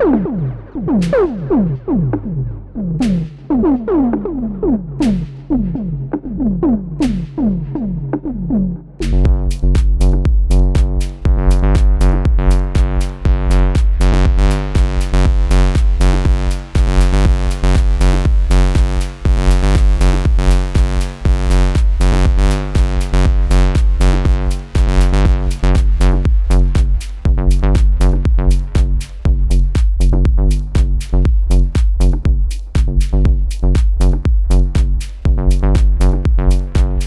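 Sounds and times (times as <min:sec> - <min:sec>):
drum machine beat: 0:00.0 - 0:37.0
synthesizer bass pattern: 0:00.0 - 0:37.0.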